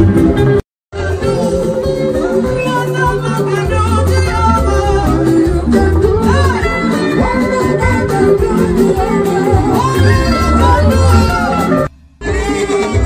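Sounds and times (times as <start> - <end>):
loud music with pulsing bass: 0.0 - 13.0.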